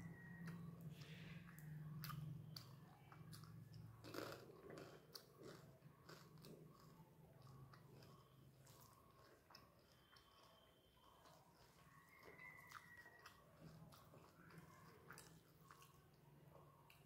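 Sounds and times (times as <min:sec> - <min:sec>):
crunchy chewing of fried fish: 0:00.0 - 0:17.0.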